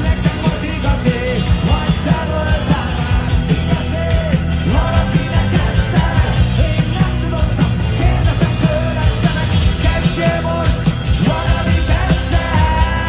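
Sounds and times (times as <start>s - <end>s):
live rock band playing: 0.0s - 13.0s
sung lead vocal: 0.0s - 13.0s.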